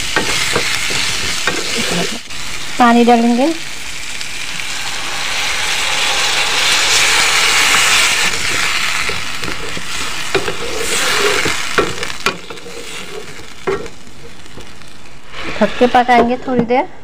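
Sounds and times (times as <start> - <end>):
spatula scraping pan: 0.0 - 2.2, 4.6 - 16.8
water sizzling in hot pan: 0.0 - 16.6.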